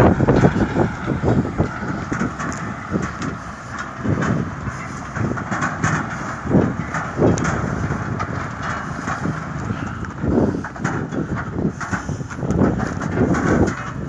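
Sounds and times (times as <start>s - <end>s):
low thumps: 0.0s - 14.0s
potato harvester clattering: 0.0s - 14.0s.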